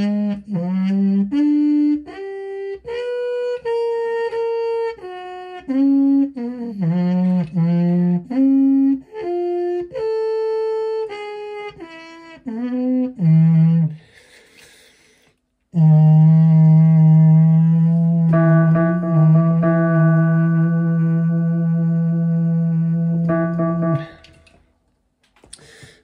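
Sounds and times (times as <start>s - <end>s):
solo trumpet: 0.0s - 14.1s, 15.7s - 24.7s.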